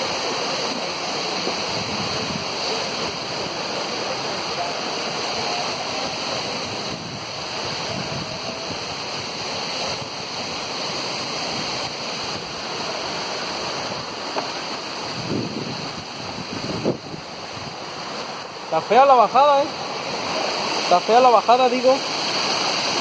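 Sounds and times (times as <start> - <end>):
waterfall rushing onto rocks: 0.0 - 23.0.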